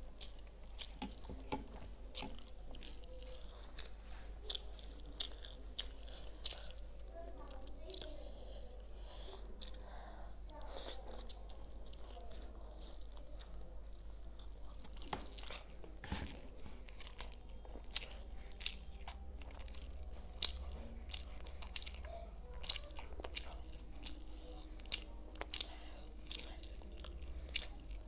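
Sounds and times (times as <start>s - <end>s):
faint low hum: 0.0s - 28.0s
wet chewing and mouth clicks: 0.0s - 28.0s.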